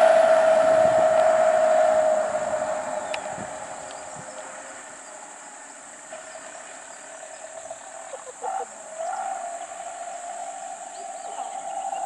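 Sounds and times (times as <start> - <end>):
faint steady hum: 0.0 - 12.0
insects buzzing: 0.0 - 12.0.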